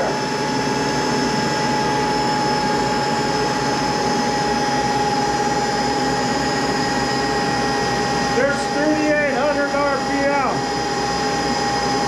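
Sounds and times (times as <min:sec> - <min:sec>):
lathe running with whine: 0:00.0 - 0:12.0.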